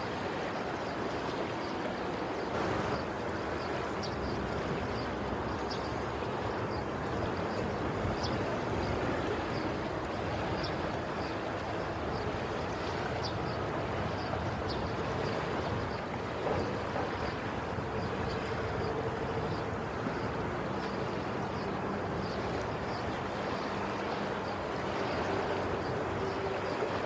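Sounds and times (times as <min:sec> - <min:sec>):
sea waves washing onto shore: 0:00.0 - 0:27.0.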